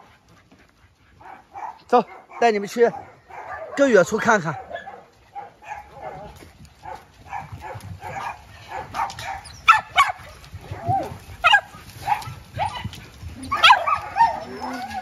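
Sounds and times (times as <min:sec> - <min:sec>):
dogs barking: 0:01.1 - 0:15.0.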